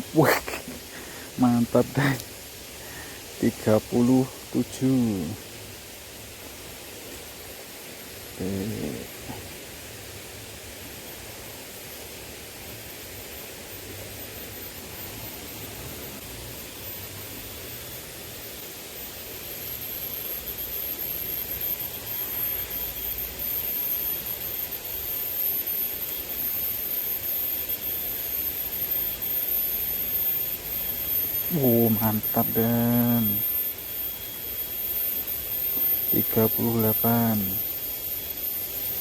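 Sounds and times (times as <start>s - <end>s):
thin high whine: 0.0s - 39.0s.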